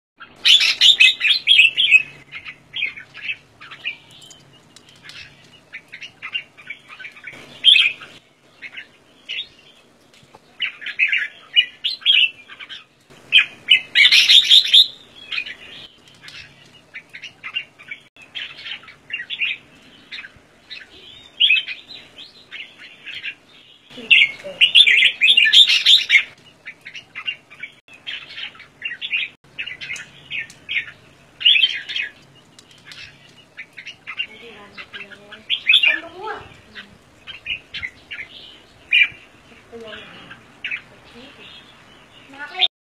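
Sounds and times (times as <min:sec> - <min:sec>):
bird chirping calls: 0:00.2 - 0:42.7.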